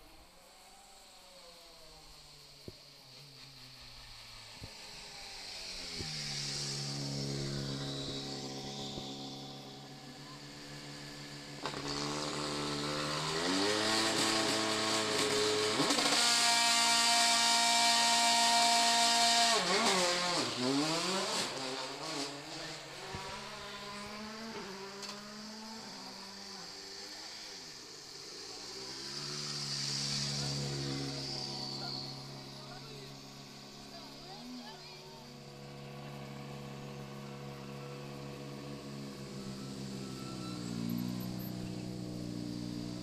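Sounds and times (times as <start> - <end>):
second rally car engine approaching: 0.0 - 43.0
rally car engine accelerating: 2.4 - 43.0.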